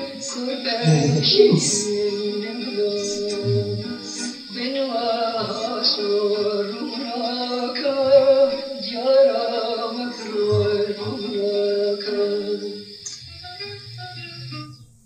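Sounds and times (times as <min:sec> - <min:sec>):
man singing slow melody: 0:00.0 - 0:13.2.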